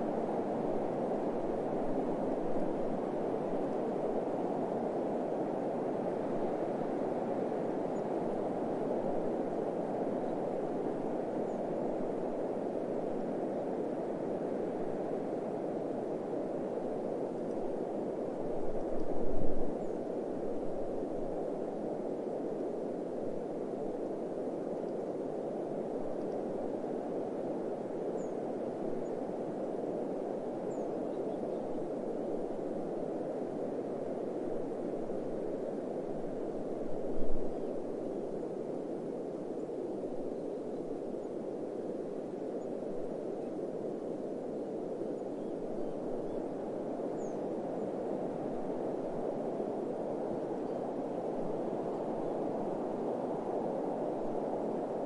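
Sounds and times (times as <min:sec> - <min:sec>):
rushing wind: 0:00.0 - 0:55.0.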